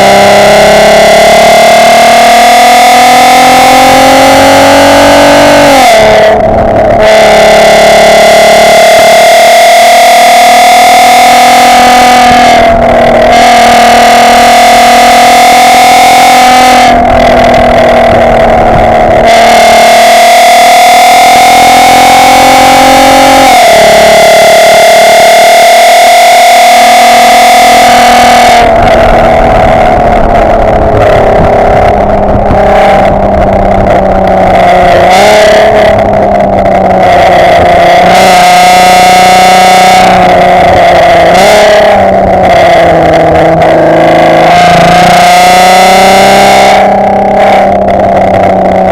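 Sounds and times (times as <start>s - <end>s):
loud car exhaust under load: 0.0s - 48.9s.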